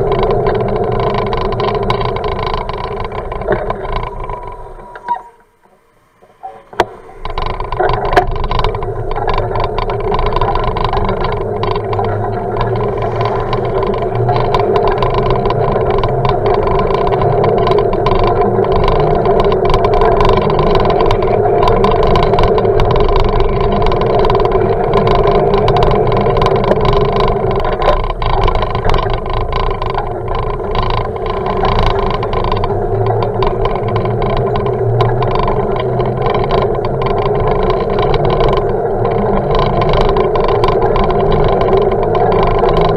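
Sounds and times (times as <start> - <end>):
bicycle rolling on asphalt: 0.0 - 42.9
small rattles and clicks: 0.0 - 42.9.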